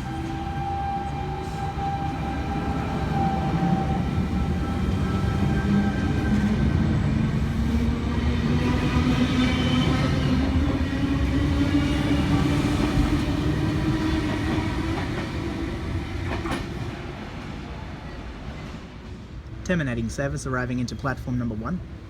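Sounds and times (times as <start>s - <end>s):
train rumble and wheel noise: 0.0s - 22.0s.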